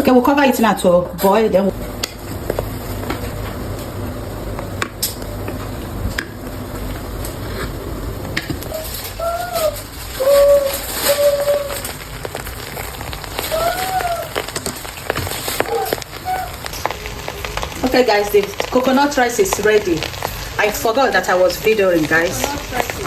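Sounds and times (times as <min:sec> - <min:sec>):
rice sizzling in a pot: 0:01.3 - 0:23.0.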